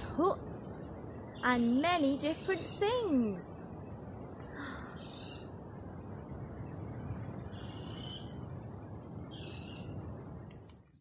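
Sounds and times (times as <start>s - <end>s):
forest background noise: 0.0s - 11.0s.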